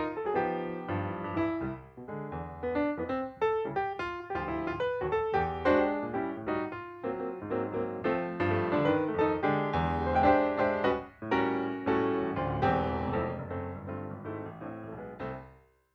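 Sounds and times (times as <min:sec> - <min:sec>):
piano music: 0:00.0 - 0:15.5.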